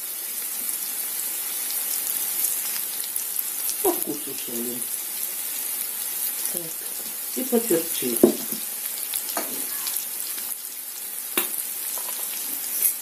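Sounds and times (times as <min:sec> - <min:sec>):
liver and onions sizzling in a pan: 0:00.0 - 0:13.0.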